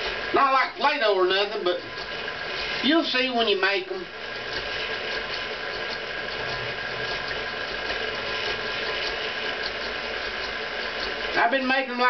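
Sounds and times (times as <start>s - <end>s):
stand mixer whirring: 0.0s - 12.0s.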